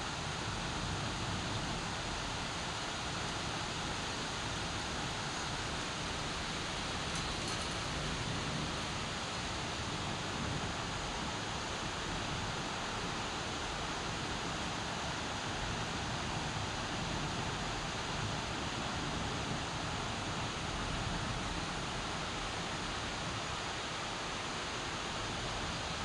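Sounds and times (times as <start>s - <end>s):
heavy rain falling: 0.1s - 26.0s.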